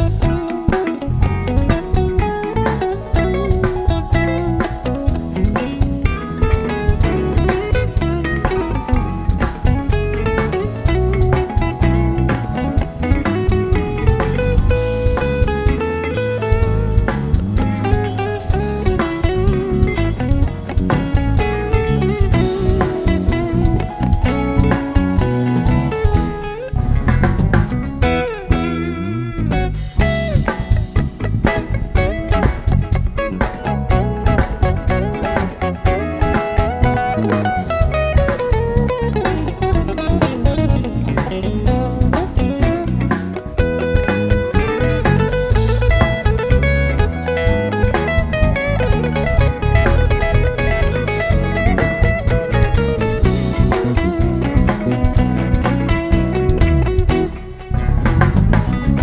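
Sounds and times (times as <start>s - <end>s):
bass guitar: 0.0s - 59.0s
drum kit beat: 0.0s - 59.0s
electric guitar lead: 0.0s - 59.0s.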